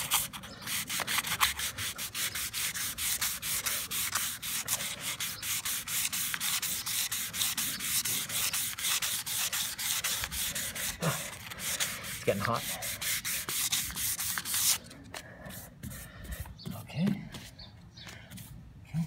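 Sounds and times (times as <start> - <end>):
sandpaper rubbing on plastic: 0.0 - 14.9, 15.5 - 17.6.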